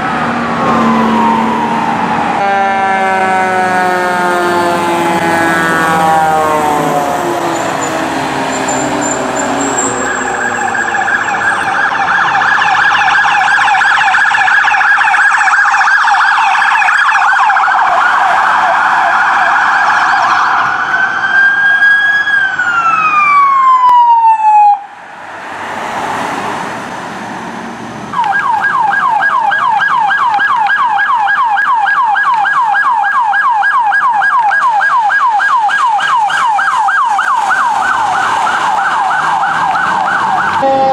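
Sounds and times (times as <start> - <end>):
deep siren winding down: 0.0 - 25.0, 27.3 - 40.9
electronic yelp siren: 0.0 - 25.0, 28.1 - 40.9.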